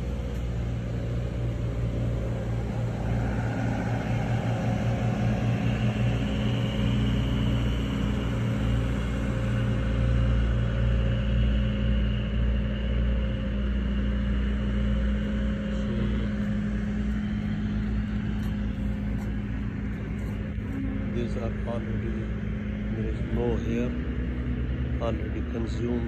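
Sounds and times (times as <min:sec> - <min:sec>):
low engine drone: 0:00.0 - 0:26.0.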